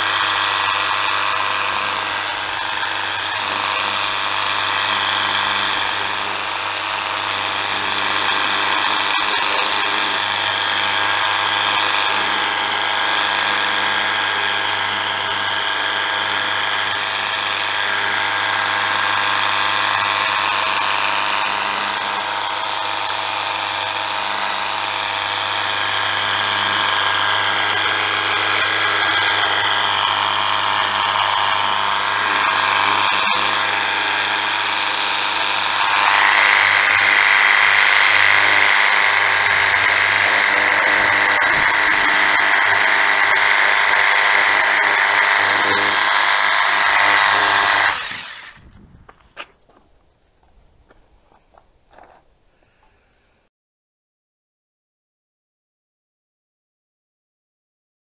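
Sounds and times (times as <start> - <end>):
electric pump motor whining: 0.0 - 48.9.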